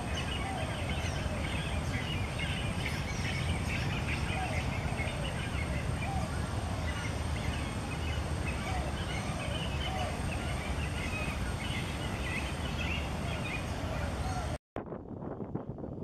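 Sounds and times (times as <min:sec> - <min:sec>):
high chirping bird calls: 0:00.0 - 0:14.6
low croaking bird calls: 0:00.0 - 0:14.6
steady low rumble: 0:00.0 - 0:16.0.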